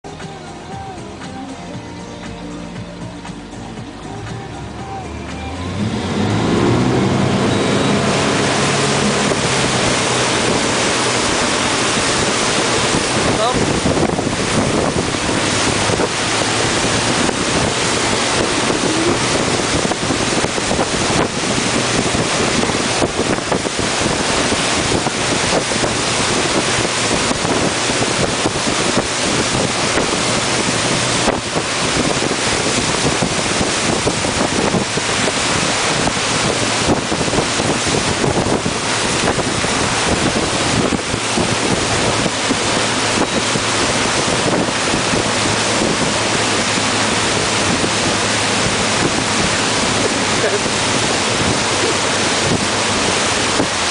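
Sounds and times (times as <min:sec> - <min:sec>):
churning wake water: 0:00.0 - 0:53.9
low engine hum: 0:00.0 - 0:53.9
wind buffeting microphone: 0:05.8 - 0:53.9.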